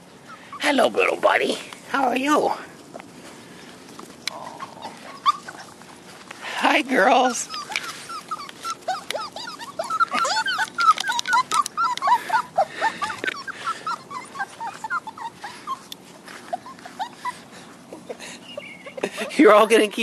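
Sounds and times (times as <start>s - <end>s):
puppies whimpering and whining: 0.0s - 1.2s, 4.4s - 19.4s.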